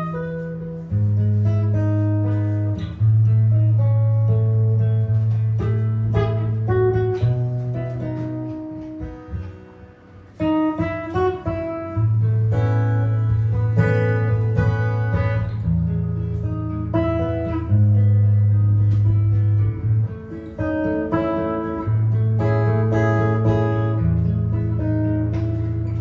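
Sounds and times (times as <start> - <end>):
solo jazz guitar: 0.0 - 26.0.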